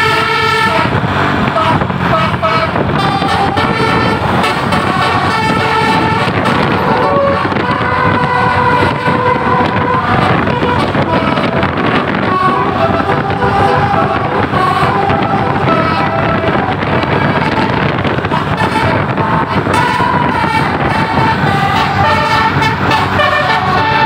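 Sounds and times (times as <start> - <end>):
musical bus horn melody: 0.0 - 24.0
steady rumble: 0.0 - 24.0.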